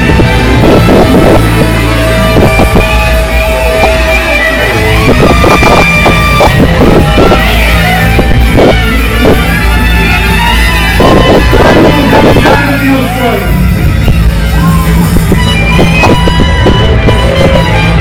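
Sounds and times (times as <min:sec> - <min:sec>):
heavy bass line: 0:00.0 - 0:18.0
live band music: 0:00.0 - 0:18.0.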